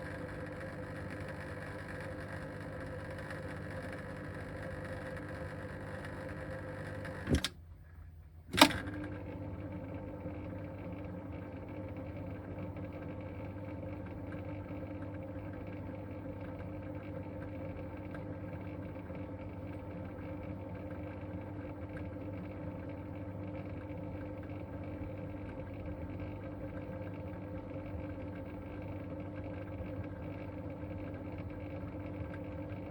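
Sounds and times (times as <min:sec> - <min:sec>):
pump motor humming with buzz: 0:00.0 - 0:07.6, 0:08.5 - 0:32.9.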